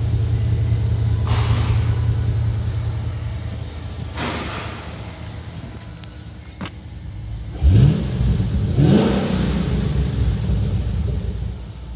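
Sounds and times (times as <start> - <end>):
car engine idling and revving: 0.0 - 11.9.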